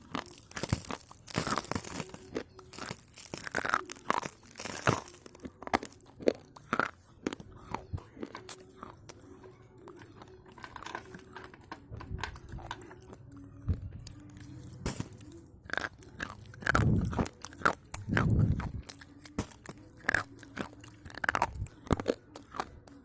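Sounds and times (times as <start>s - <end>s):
slate pencils being chewed: 0.0s - 23.0s.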